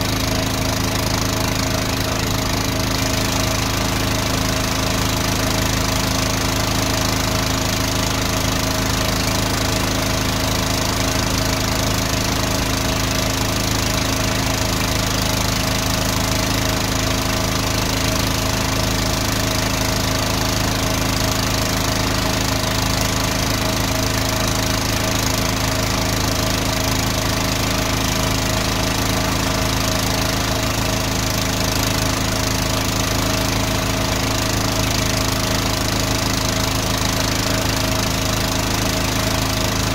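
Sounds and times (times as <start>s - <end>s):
engine and pump running: 0.0s - 39.9s.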